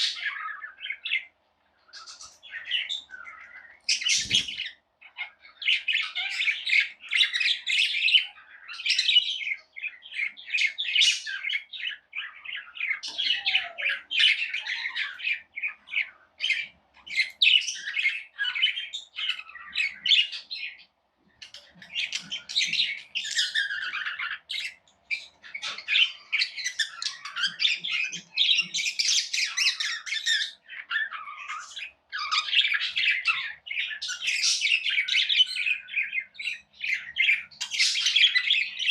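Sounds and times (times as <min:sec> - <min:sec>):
parrots chirping and chattering: 0:00.0 - 0:38.9.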